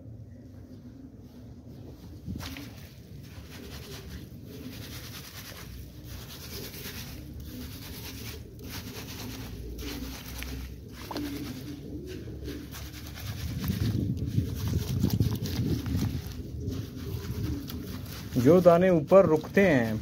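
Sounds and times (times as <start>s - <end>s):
pigeons cooing: 0.0s - 20.0s
hand stirring grain in water: 2.4s - 20.0s.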